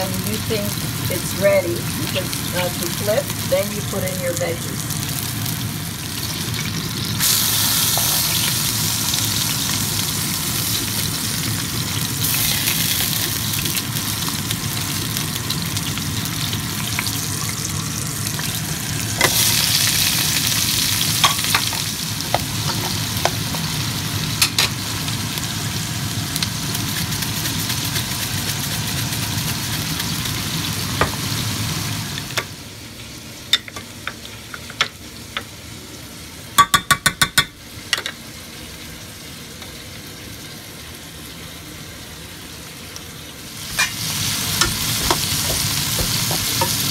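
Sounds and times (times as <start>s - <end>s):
patties sizzling in a frying pan: 0.0s - 36.6s, 37.6s - 46.9s.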